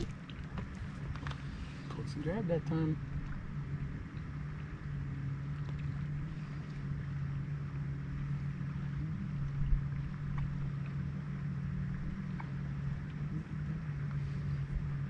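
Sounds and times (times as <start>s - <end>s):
low motor hum: 0.0s - 15.0s
low rumble: 0.0s - 15.0s.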